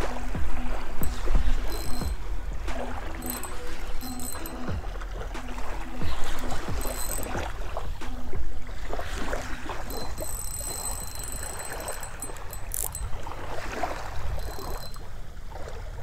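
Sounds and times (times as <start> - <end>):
small waves lapping: 0.0 - 16.0.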